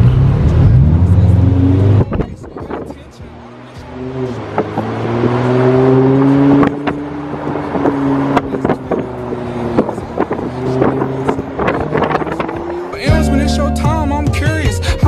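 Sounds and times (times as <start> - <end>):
car engine pulling away: 0.0 - 15.0.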